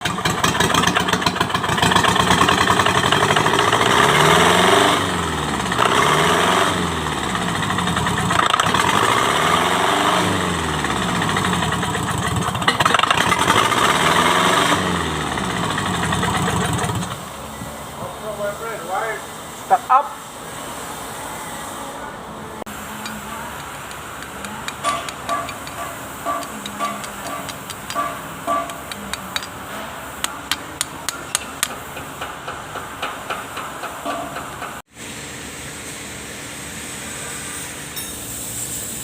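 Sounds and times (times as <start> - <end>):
diesel engine revving: 0.0 - 34.9.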